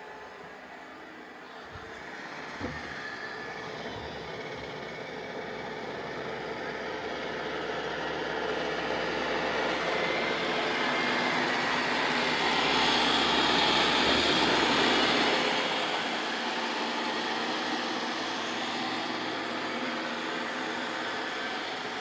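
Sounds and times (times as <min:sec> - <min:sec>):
robot vacuum whirring: 0:01.5 - 0:22.0.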